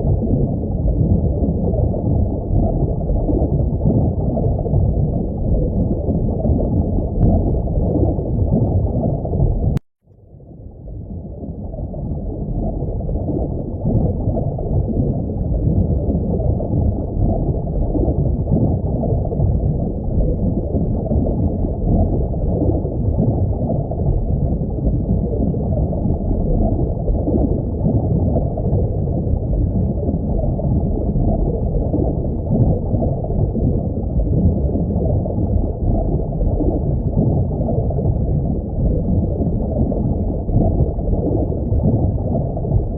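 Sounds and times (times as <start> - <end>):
muffled aquarium water rushing: 0.0 - 42.9.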